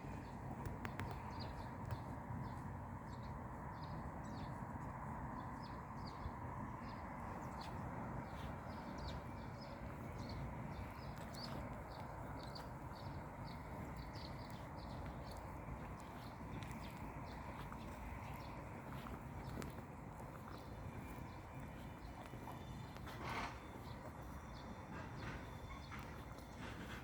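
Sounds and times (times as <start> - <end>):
low background rush: 0.0 - 27.0
small birds chirping: 0.0 - 27.0.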